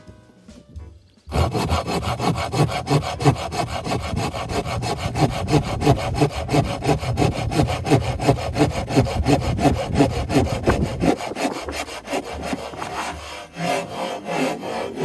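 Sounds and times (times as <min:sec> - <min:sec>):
hand saw cutting branch: 0:01.3 - 0:15.0.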